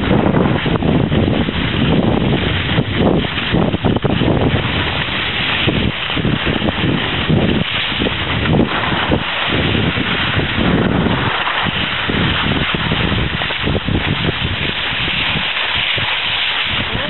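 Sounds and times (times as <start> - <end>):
skis sliding on snow: 0.0 - 17.0
wind buffeting microphone: 0.0 - 17.0.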